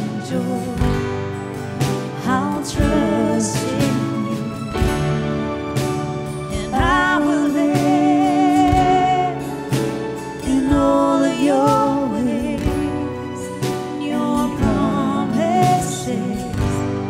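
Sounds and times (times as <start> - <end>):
woman singing: 0.0 - 1.4, 2.1 - 4.8, 6.5 - 17.0
acoustic and electric guitars: 0.0 - 17.0
bass: 0.0 - 17.0
drums: 0.0 - 17.0
piano: 0.0 - 17.0.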